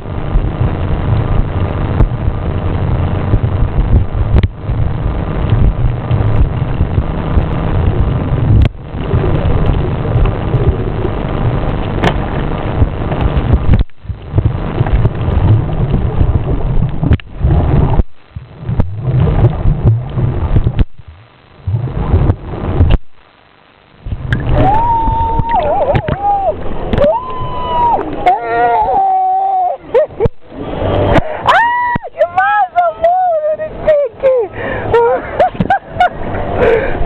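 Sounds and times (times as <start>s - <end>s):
rumbling water: 0.0s - 37.0s.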